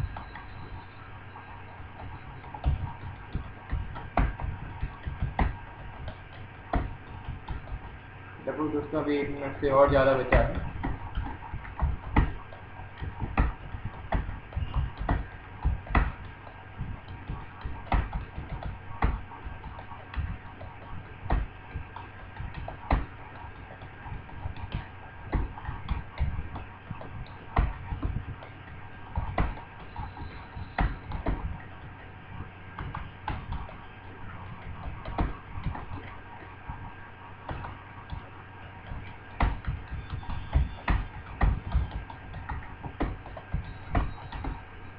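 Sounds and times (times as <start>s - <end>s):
faint electrical hum: 0.0s - 44.9s
keyboard typing: 0.0s - 44.9s.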